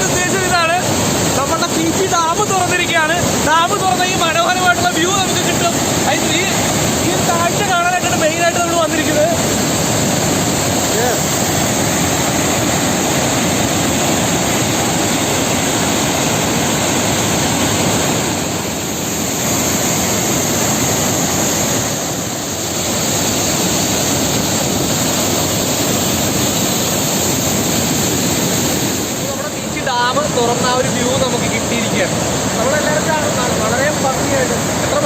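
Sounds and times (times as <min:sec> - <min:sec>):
water rushing through spillway: 0:00.0 - 0:35.0.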